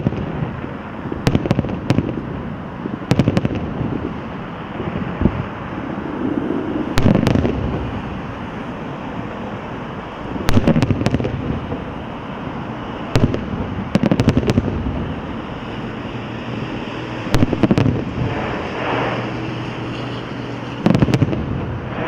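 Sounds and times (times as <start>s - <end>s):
distant explosions rumble: 0.0s - 19.3s
fireworks bangs: 0.0s - 19.3s.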